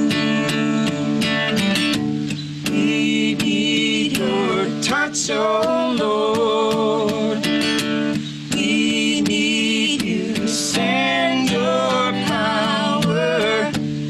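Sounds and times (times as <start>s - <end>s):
person singing worship song: 0.0s - 1.8s, 2.6s - 14.0s
strummed acoustic guitar: 0.0s - 14.0s.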